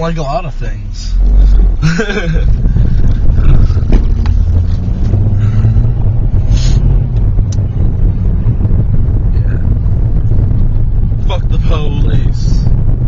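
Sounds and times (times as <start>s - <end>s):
car rumbling: 0.0s - 13.0s
wind buffeting microphone: 0.8s - 13.0s.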